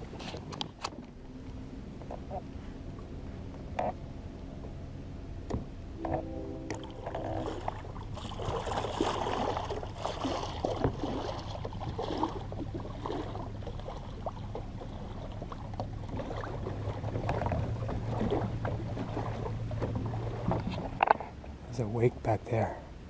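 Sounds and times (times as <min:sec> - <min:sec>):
electric trolling motor hum: 0:00.0 - 0:21.5
water lapping against boat hull: 0:00.0 - 0:23.0.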